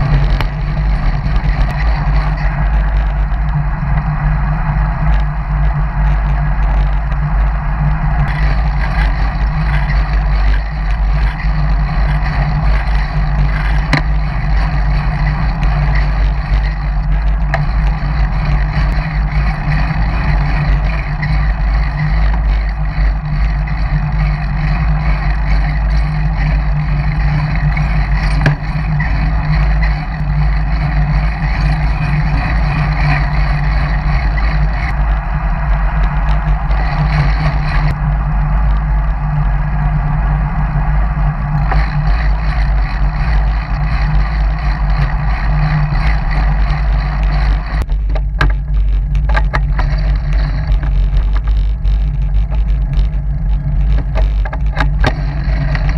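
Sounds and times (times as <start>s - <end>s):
tyres humming on asphalt: 0.0s - 55.9s
wind buffeting microphone: 0.0s - 55.9s.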